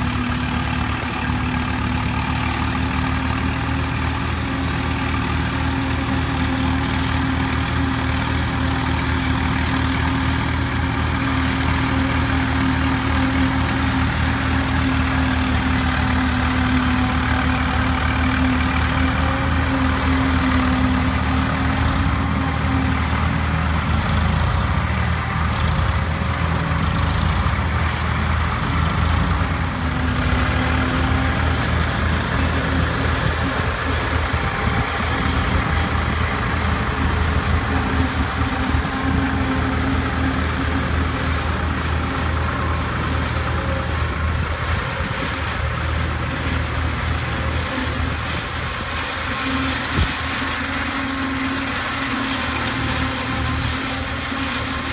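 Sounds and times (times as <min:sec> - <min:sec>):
tractor engine drone: 0:00.0 - 0:54.9.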